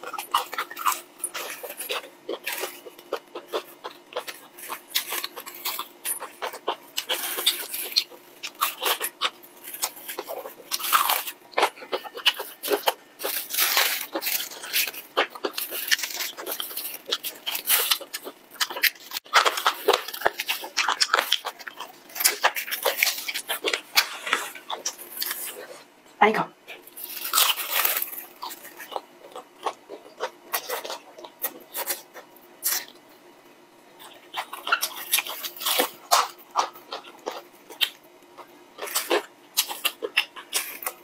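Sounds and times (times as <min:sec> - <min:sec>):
crunchy chewing of fried chicken: 0:00.0 - 0:26.0, 0:26.6 - 0:41.0.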